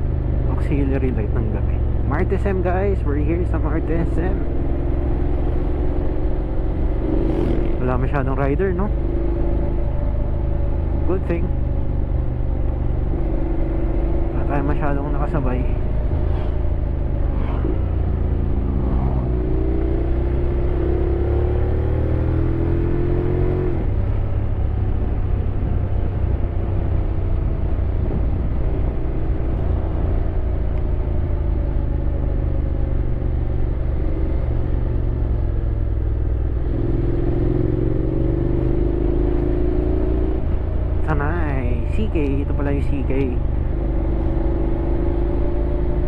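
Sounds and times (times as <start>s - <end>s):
motorcycle engine revving: 0.0s - 46.0s
road rumble: 0.0s - 46.0s
wind: 0.0s - 46.0s.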